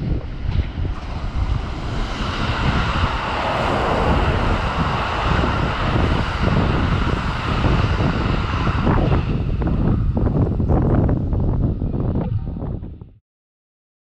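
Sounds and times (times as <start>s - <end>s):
electric train passing: 0.0s - 11.3s
wheels rumbling on rail: 0.0s - 12.8s
wind on microphone: 0.0s - 13.2s.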